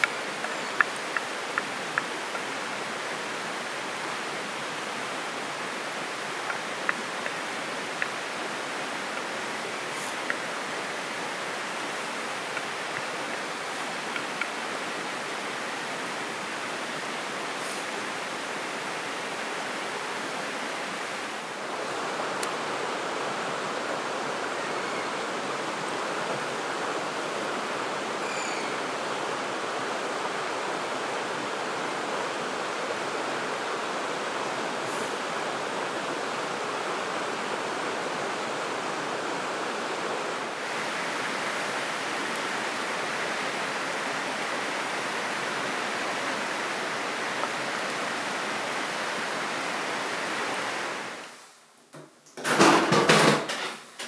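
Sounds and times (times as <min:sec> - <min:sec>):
stream water rushing: 0:00.0 - 0:51.5.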